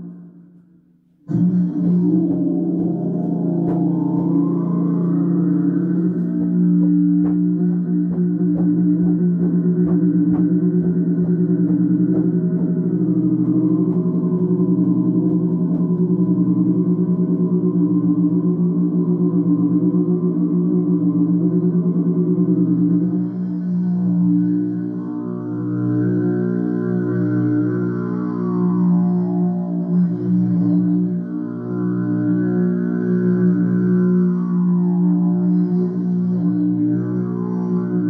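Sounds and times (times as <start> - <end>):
didgeridoo drone: 0.0 - 0.6, 1.2 - 38.0.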